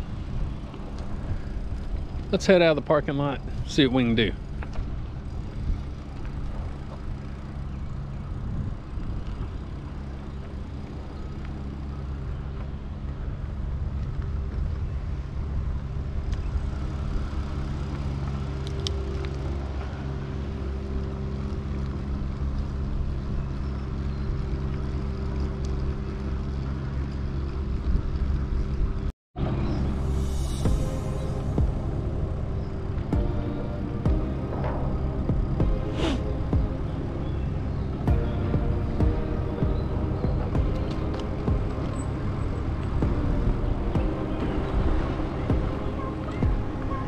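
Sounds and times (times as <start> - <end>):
low even hum: 0.0 - 47.0
wind and road noise: 0.0 - 47.0.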